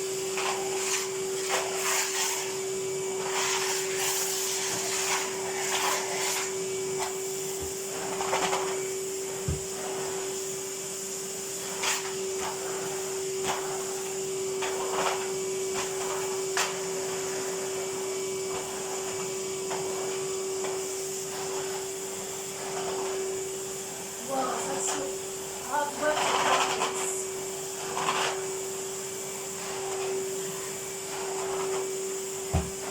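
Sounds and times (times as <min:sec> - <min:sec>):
vacuum cleaner motor whine: 0:00.0 - 0:32.9.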